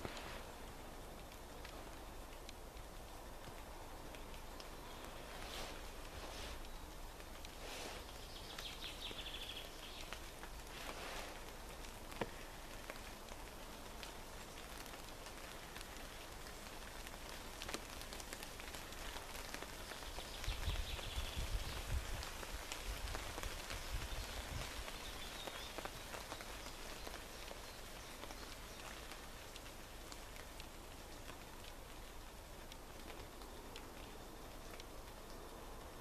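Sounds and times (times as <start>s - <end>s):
light rain falling: 0.0s - 36.0s
raindrops ticking: 0.0s - 36.0s.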